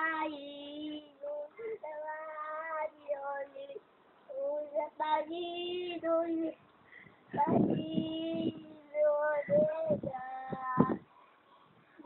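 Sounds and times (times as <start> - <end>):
girl singing: 0.0 - 6.6, 7.3 - 11.1.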